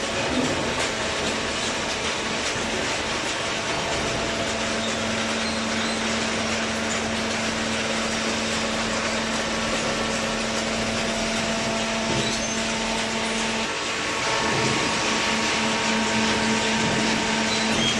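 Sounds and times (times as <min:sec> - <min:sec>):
hydraulic power unit humming: 0:00.0 - 0:17.9.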